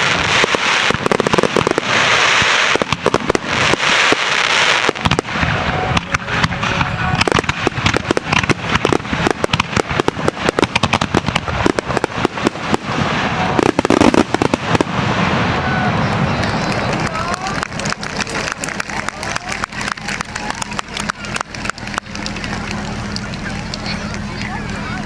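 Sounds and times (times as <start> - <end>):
firework shell bursts: 0.0 - 24.3
hissing crackle: 0.0 - 25.0.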